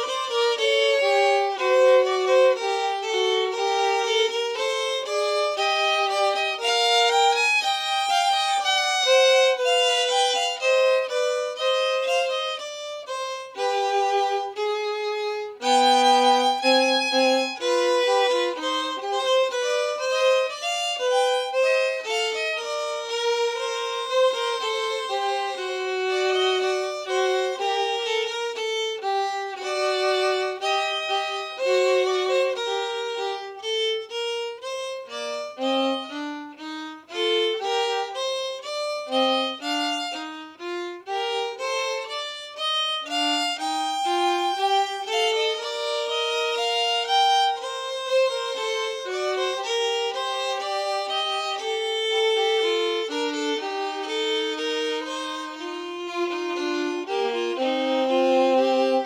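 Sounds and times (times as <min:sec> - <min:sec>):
two violins playing a duet: 0:00.0 - 0:59.0.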